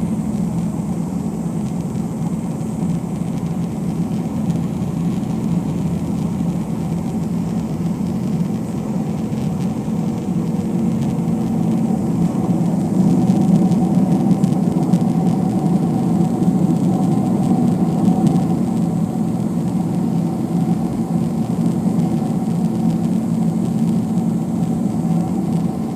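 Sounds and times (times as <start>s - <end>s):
jet engine cabin drone: 0.0s - 25.9s.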